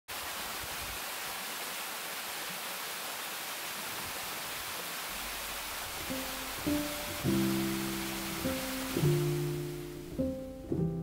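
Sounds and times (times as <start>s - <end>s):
waterfall rushing: 0.1s - 10.7s.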